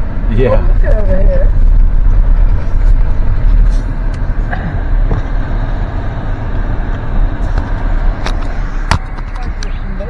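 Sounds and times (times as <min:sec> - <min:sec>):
car cabin low rumble: 0:00.0 - 0:10.0.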